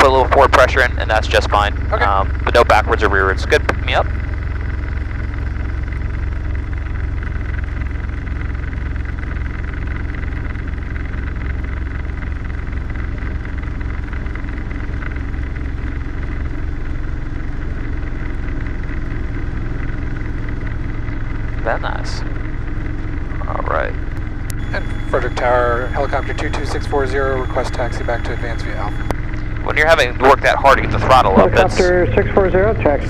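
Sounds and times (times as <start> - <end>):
helicopter engine and rotors: 0.0 - 33.0
thin steady whine: 0.0 - 33.0.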